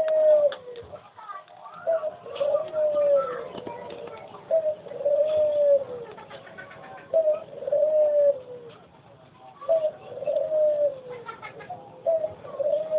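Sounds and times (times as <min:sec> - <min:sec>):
bird cooing call: 0:00.0 - 0:00.9, 0:01.6 - 0:08.9, 0:09.6 - 0:12.9.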